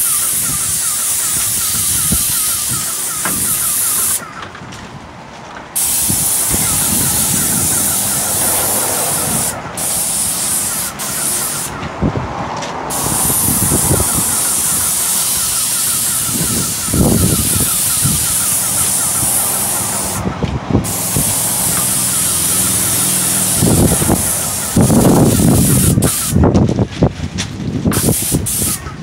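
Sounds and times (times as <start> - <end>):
paint spray gun hissing: 0.0 - 4.3, 5.8 - 11.8, 12.9 - 26.4, 27.9 - 28.9.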